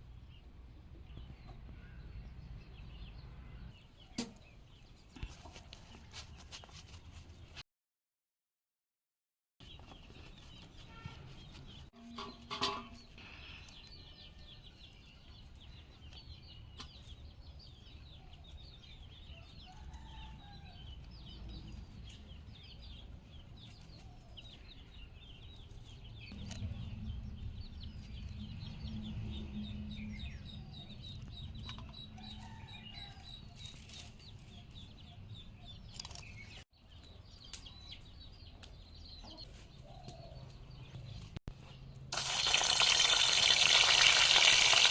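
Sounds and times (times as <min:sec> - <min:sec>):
birds chirping: 0:00.2 - 0:07.5, 0:09.6 - 0:44.9.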